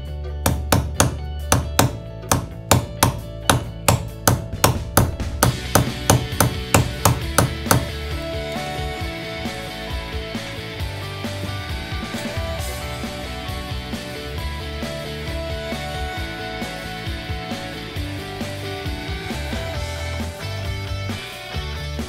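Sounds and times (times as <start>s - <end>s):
guitar background music: 0.0s - 22.0s.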